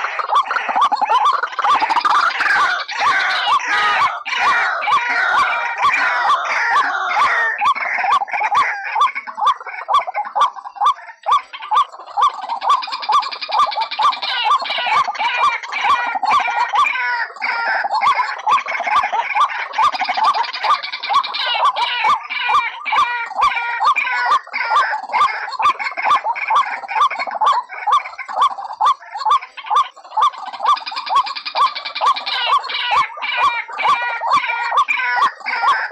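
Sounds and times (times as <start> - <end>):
waterhen calling: 0.0 - 35.9.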